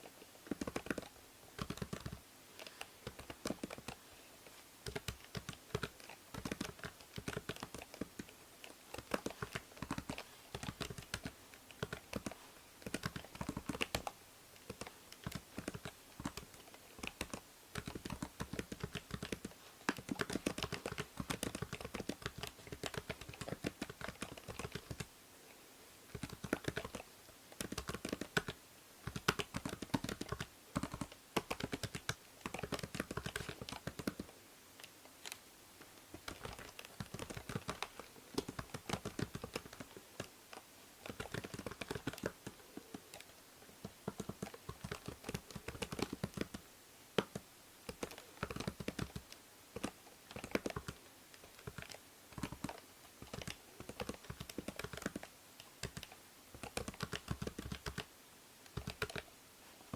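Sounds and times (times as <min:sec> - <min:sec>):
faint steady hiss: 0:00.0 - 0:59.9
computer keyboard typing: 0:00.4 - 0:04.0, 0:04.8 - 0:25.1, 0:26.1 - 0:35.4, 0:36.2 - 0:59.3.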